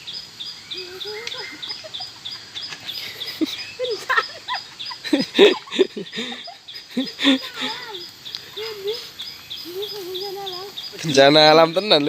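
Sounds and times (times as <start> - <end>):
high bird chirp: 0.0 - 12.0
low bending bird calls: 0.0 - 12.0.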